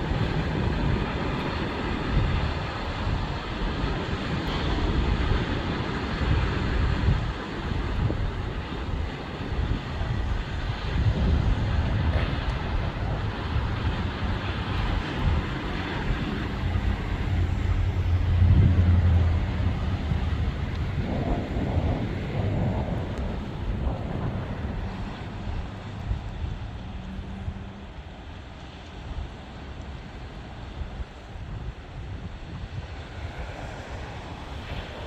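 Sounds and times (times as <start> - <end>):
low engine drone: 0.0 - 29.1
steady rushing noise: 0.0 - 35.0.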